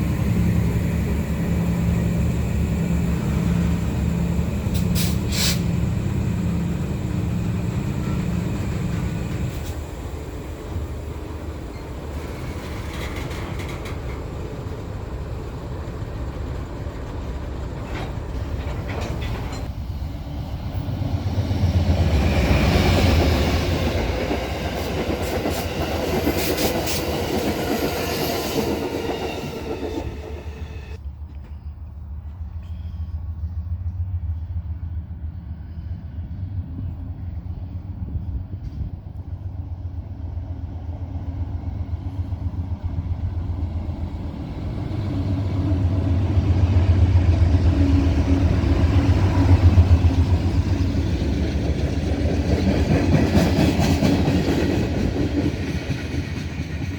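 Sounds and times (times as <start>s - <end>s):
train rumbling past: 0.0s - 56.9s.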